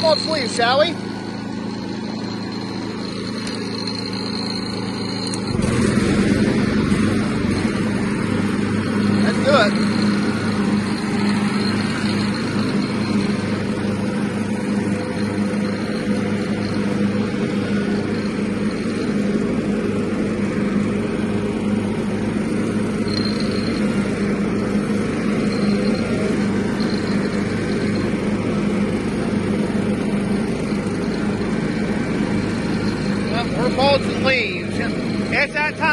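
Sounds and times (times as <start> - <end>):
riding lawnmower engine running: 0.0 - 35.9.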